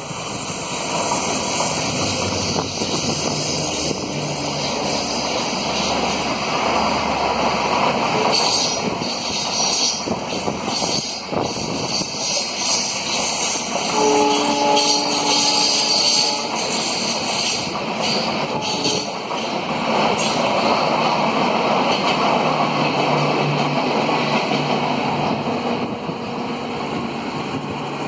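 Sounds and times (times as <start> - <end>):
diesel locomotive engine running: 0.0 - 28.0
wheels rattling and clicking on rail: 0.0 - 28.0.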